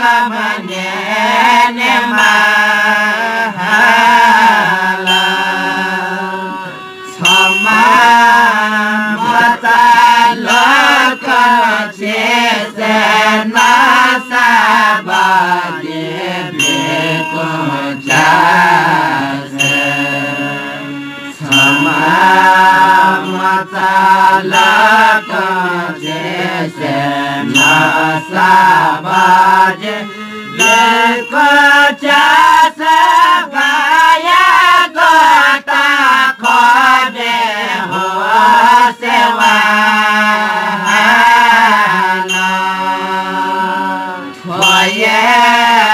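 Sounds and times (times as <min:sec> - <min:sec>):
group singing folk song: 0:00.0 - 0:45.9
harmonium: 0:00.0 - 0:45.9
small cymbals: 0:00.0 - 0:45.9.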